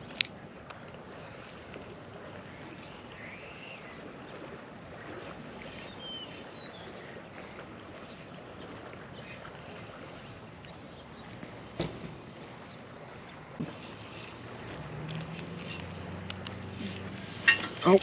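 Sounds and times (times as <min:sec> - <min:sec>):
wind and water hiss: 0:00.0 - 0:18.0.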